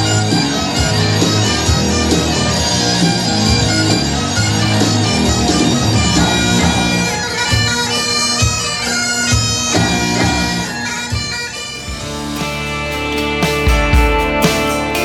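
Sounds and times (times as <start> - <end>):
bagpipe music: 0.0 - 15.0.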